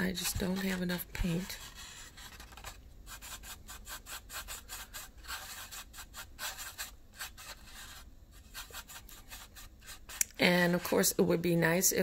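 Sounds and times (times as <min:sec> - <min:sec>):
paintbrush swishing and scratching: 0:00.0 - 0:11.4.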